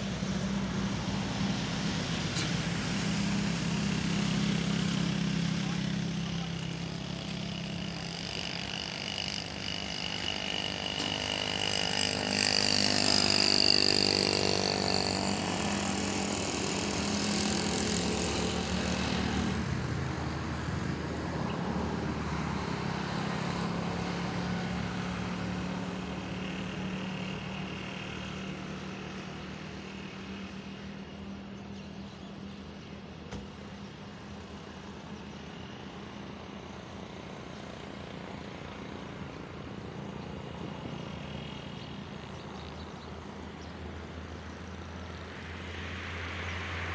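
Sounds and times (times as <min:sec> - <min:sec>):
motor vehicles passing: 0:00.0 - 0:46.9.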